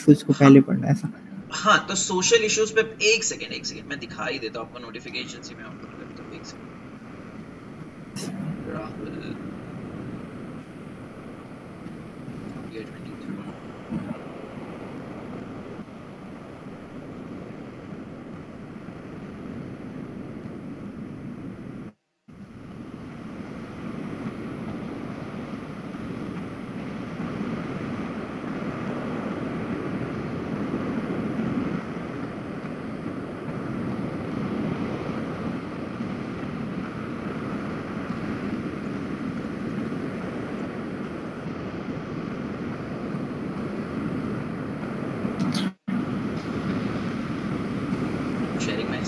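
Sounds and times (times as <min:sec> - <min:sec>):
steady rushing noise: 0:00.0 - 0:49.0.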